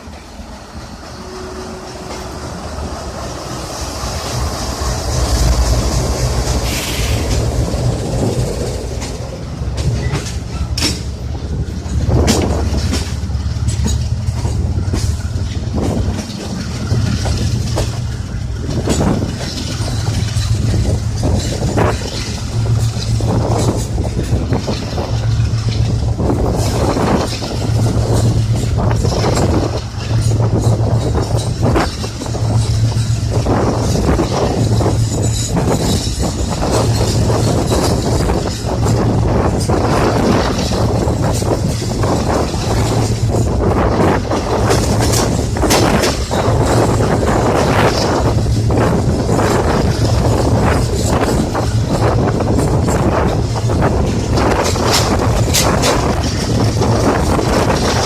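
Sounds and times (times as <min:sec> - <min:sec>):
train rumbling: 0:00.0 - 0:58.0
wheels clanking on rail joints: 0:00.0 - 0:58.0
wind buffeting microphone: 0:00.0 - 0:58.0.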